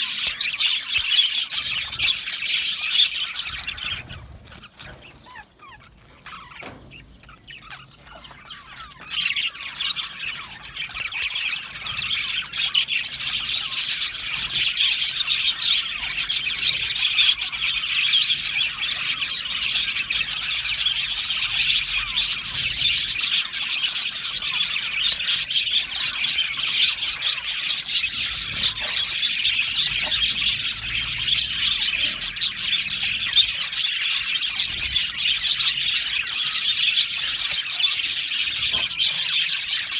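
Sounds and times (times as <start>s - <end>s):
flock of budgerigars chattering: 0.0s - 39.9s.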